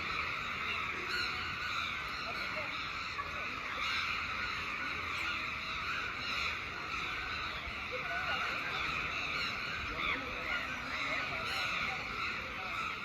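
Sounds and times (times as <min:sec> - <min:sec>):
crows cawing: 0:00.0 - 0:13.0.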